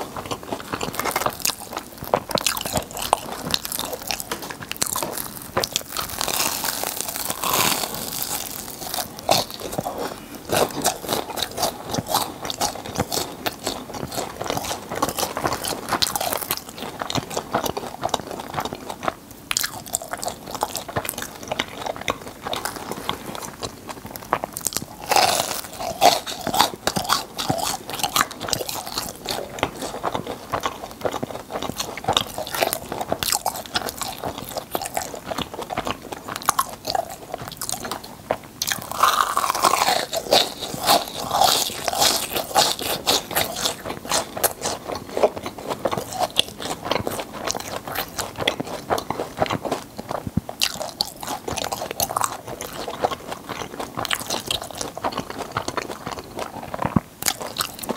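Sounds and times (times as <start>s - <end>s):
crunching churros being chewed: 0.0s - 57.9s.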